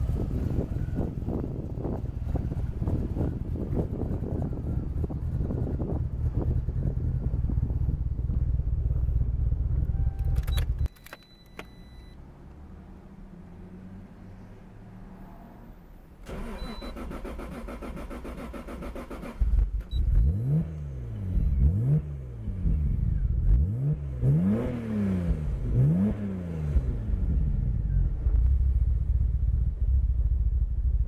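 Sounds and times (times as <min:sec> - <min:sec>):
car engine revving and idling: 0:00.0 - 0:10.9, 0:11.8 - 0:31.0.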